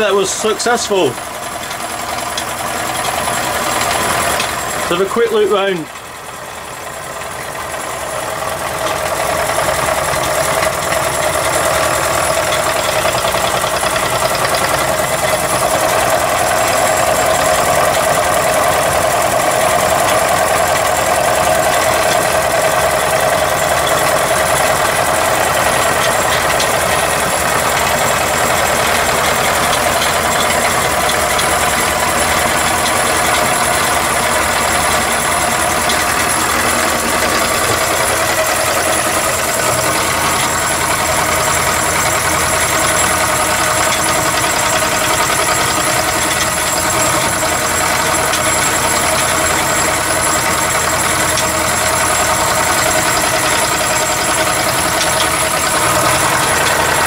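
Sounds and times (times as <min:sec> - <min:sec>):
model engine running on air: 0:00.0 - 0:57.0.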